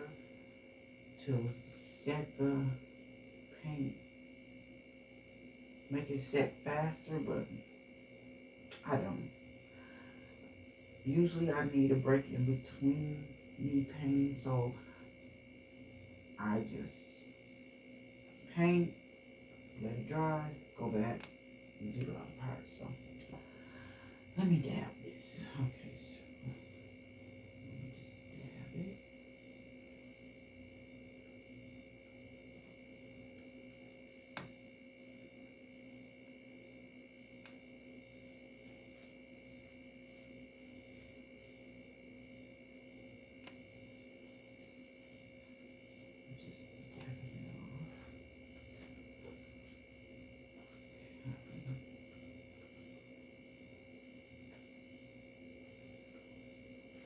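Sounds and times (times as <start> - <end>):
high whining electrical hum: 0.0 - 57.0.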